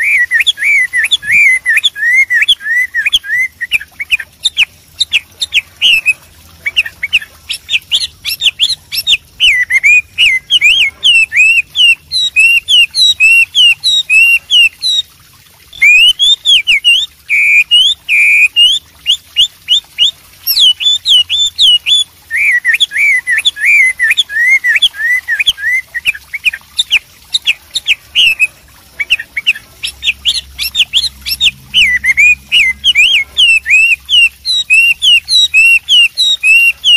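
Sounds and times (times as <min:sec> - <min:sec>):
bird singing whistled notes: 0:00.0 - 0:15.0, 0:15.8 - 0:36.9.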